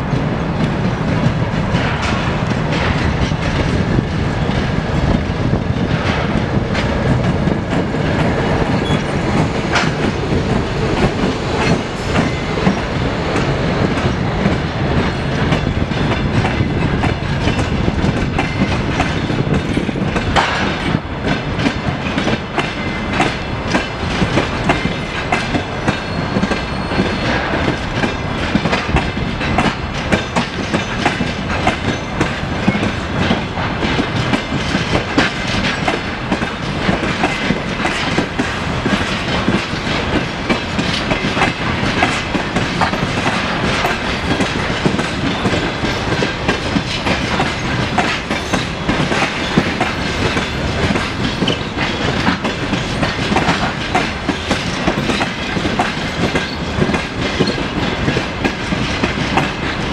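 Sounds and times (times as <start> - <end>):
diesel locomotive engine rumbling: 0.0 - 59.9
train wheels clacking over rail joints: 0.0 - 59.9.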